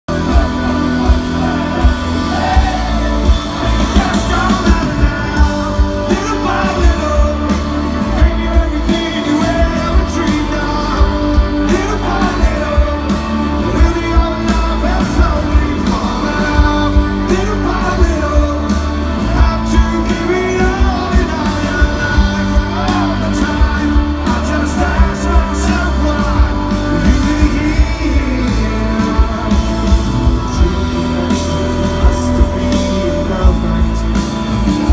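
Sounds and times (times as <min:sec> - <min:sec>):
live rock band playing: 0:00.0 - 0:34.9
steady drum beat: 0:00.1 - 0:34.9
sung vocals: 0:00.1 - 0:34.9.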